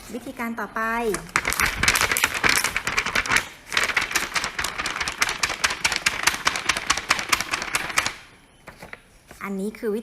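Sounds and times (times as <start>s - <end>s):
paper flapping: 1.1s - 9.6s.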